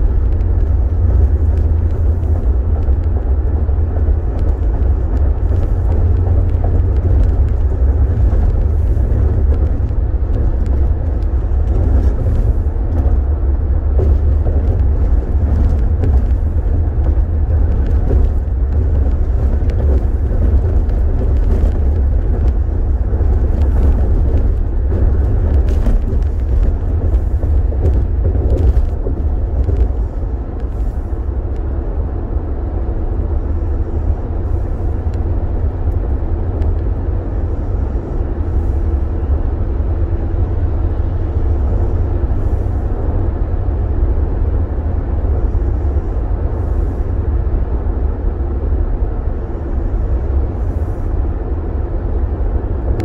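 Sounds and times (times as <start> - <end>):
car cabin road rumble: 0.0 - 53.0.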